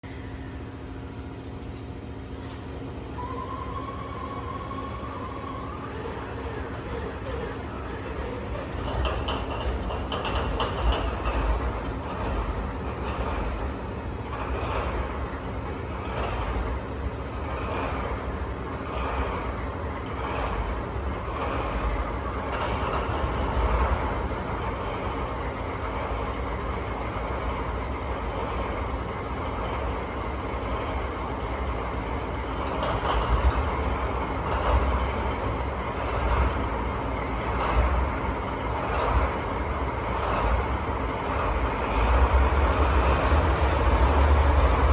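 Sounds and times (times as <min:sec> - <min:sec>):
diesel locomotive engine idling: 0:00.0 - 0:44.9.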